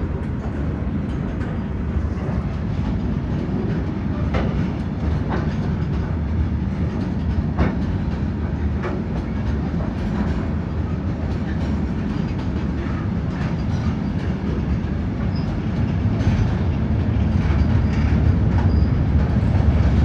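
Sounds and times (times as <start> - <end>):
train wheels rumbling on rails: 0.0 - 20.0
wheels clicking over rail joints: 0.1 - 20.0.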